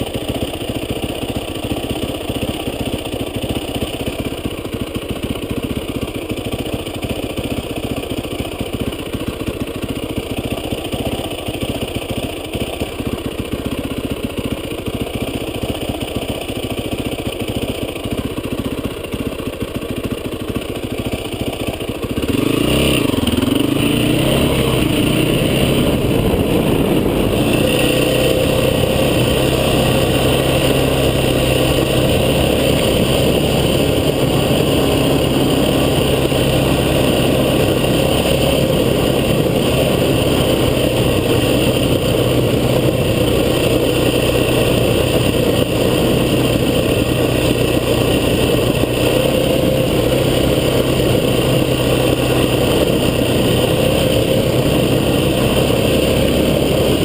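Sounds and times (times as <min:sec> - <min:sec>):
vehicle engine running under load: 0:00.0 - 0:57.0.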